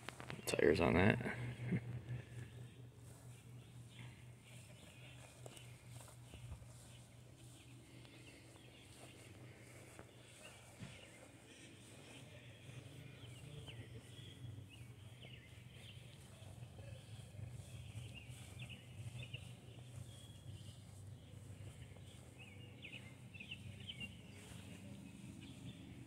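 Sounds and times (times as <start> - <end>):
low outdoor rumble: 0.0 - 26.0
small birds chirping: 0.0 - 26.0.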